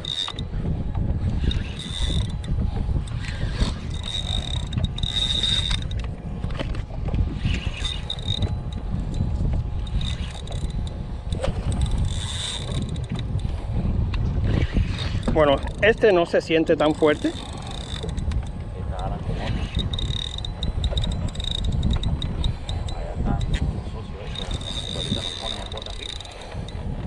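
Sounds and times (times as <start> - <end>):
fishing reel gears whirring: 0.0 - 27.0
wind and sea rumble: 0.0 - 27.0.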